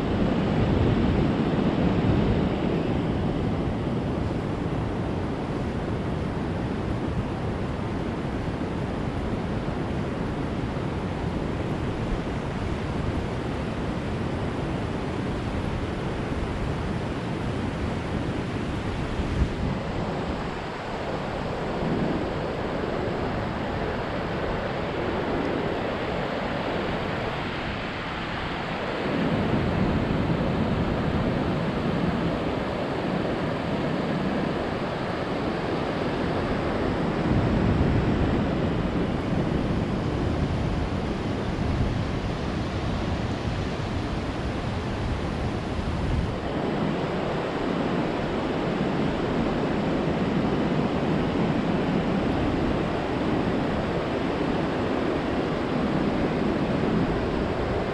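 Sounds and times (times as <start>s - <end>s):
ocean surf breaking on beach: 0.0s - 57.9s.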